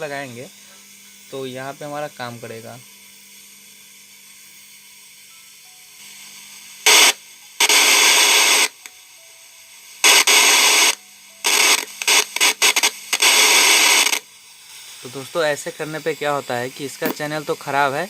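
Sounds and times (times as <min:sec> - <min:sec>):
faint steady hum: 0:00.0 - 0:18.0
loud static hiss from speaker: 0:00.0 - 0:18.0.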